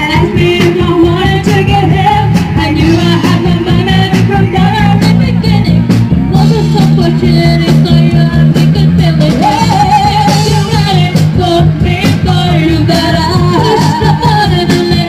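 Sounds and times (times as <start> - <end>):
drums beating: 0.0 - 15.0
rock band playing: 0.0 - 15.0.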